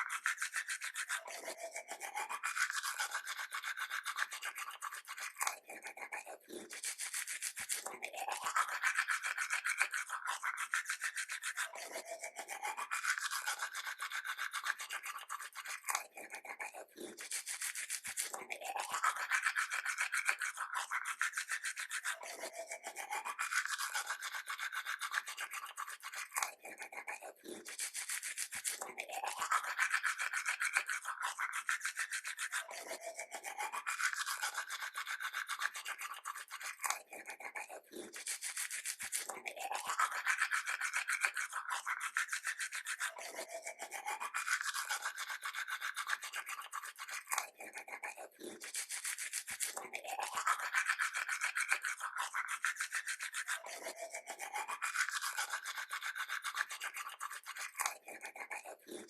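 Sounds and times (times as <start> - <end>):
toothbrush scrubbing teeth: 0.0 - 59.0.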